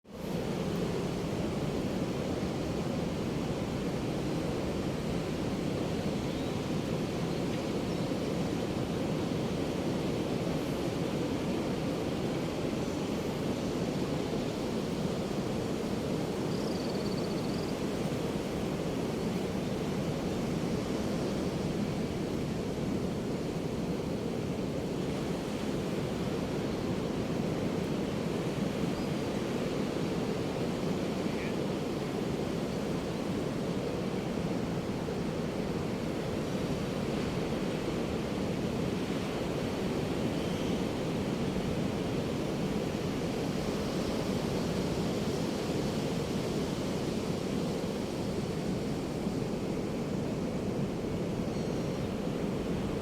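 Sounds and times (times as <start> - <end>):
ocean surf on beach: 0.1 - 53.0.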